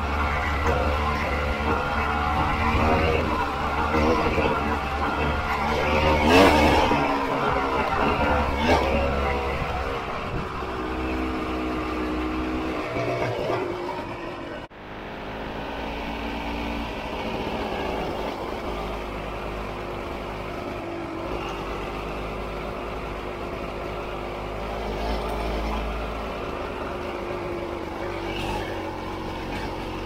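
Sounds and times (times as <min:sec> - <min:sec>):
two-stroke motorcycle engine running: 0:00.0 - 0:30.0.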